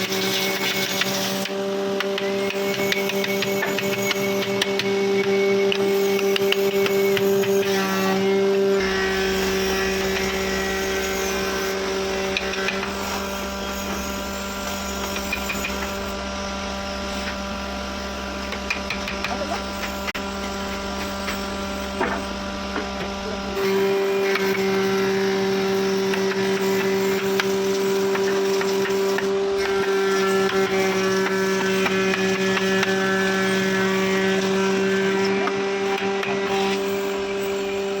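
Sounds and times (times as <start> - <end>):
power tool humming: 0.0 - 38.0.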